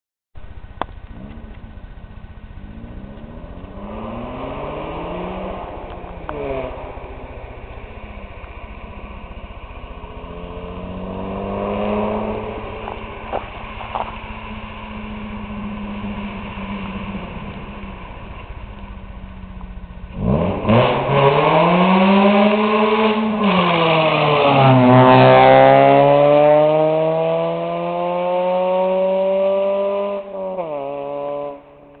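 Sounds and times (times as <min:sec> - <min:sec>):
car engine revving: 0:00.4 - 0:32.0.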